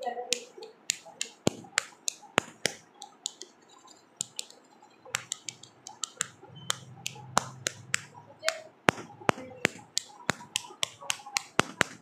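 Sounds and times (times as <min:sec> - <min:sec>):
paintbrush tapping paintbrush: 0:00.3 - 0:12.0.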